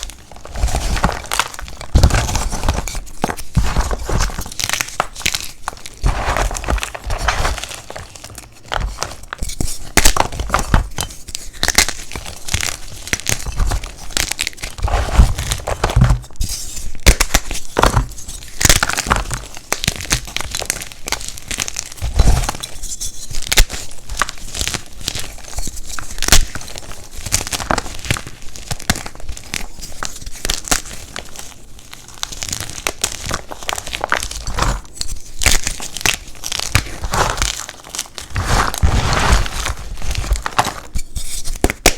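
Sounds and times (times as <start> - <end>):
chalk blocks crunching: 0.0 - 41.9.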